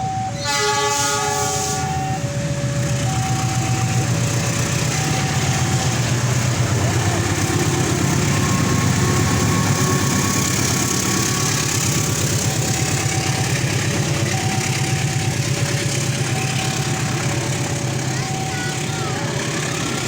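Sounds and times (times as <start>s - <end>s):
vehicle engine running: 1.8s - 20.0s.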